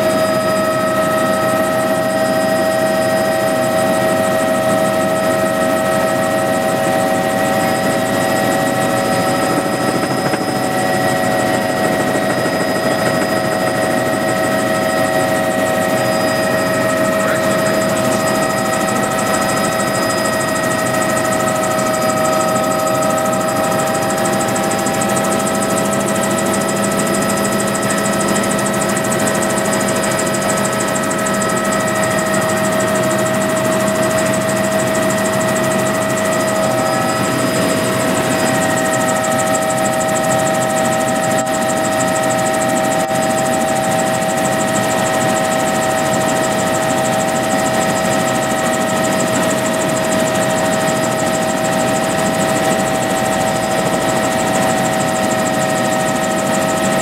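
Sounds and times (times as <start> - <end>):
constant whining tones: 0.0 - 57.0
helicopter engine and rotor drone: 0.0 - 57.0.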